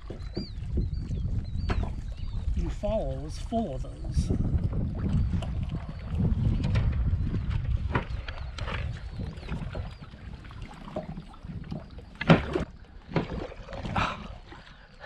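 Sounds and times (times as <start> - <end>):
wind rumble on microphone: 0.0 - 14.7
knocks and splashes around boat: 0.0 - 15.0.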